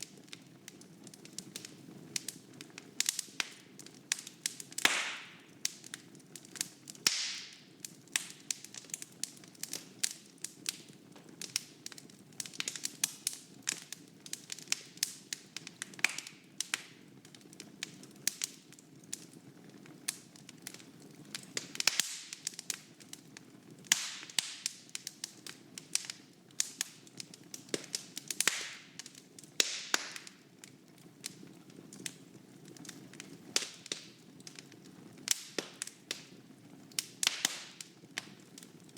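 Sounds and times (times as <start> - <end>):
fire pops and snaps: 0.0 - 38.9
wood fire crackling: 0.0 - 38.9.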